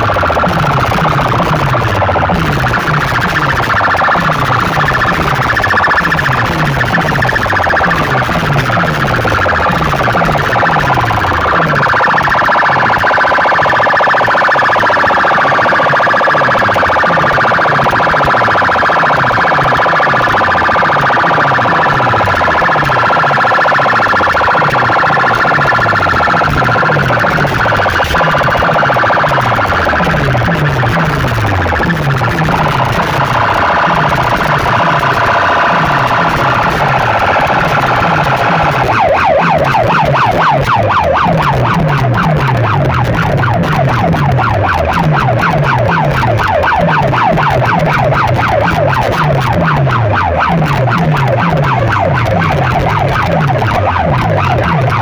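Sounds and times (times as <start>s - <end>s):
siren-like wailing tone: 0.0s - 55.0s.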